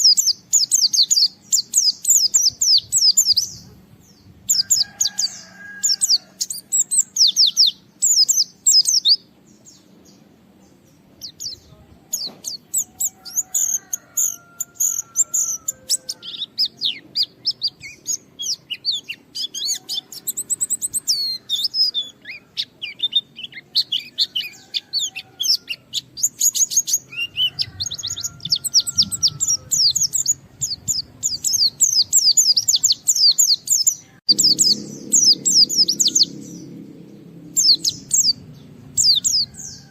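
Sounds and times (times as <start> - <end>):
bird twittering chirps and trills: 0.0 - 39.9.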